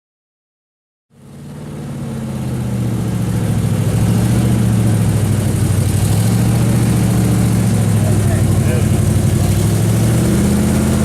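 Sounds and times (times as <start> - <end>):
sports car engine idling: 1.1 - 11.0.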